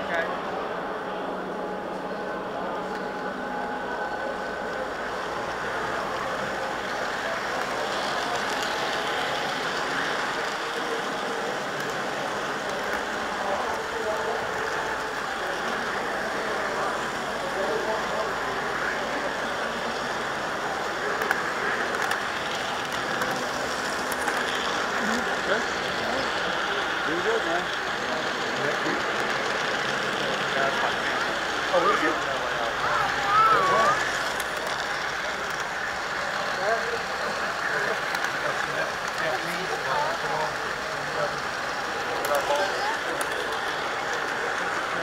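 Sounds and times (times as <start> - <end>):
model train wheels rolling on rails: 0.0 - 45.0.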